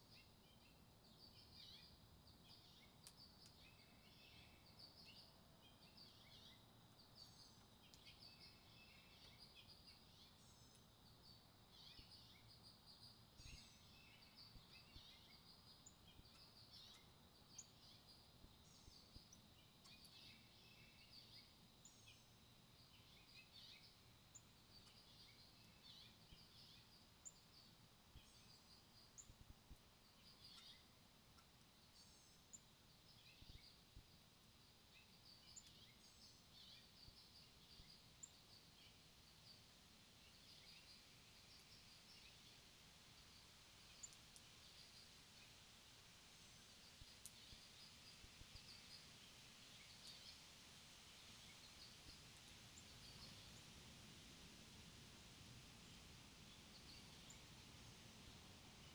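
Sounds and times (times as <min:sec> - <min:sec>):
faint songbird chirps: 0:00.0 - 0:58.9.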